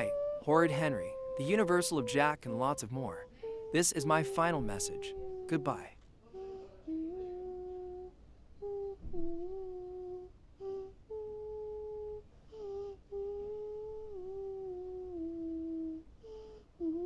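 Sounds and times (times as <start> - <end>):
person humming a slow tune: 0.0 - 17.0.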